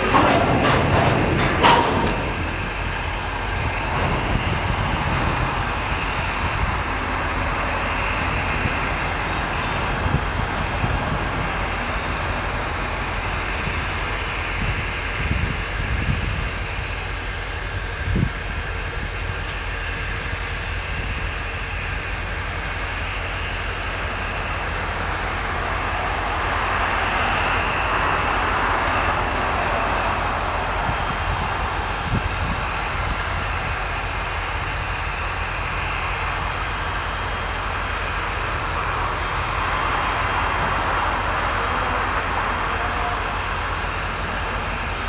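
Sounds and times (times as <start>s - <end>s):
locomotive engine rumble: 0.0s - 45.0s
train rushing noise: 0.0s - 45.0s.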